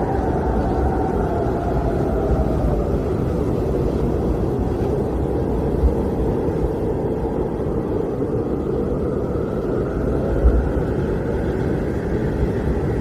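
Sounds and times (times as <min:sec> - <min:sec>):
blizzard wind rushing: 0:00.0 - 0:13.0.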